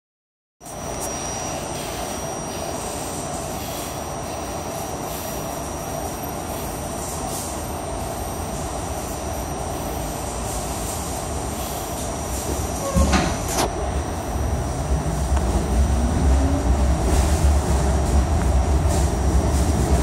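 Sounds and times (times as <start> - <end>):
high-pitched whine: 0.6 - 20.0
subway car interior rush: 0.6 - 20.0.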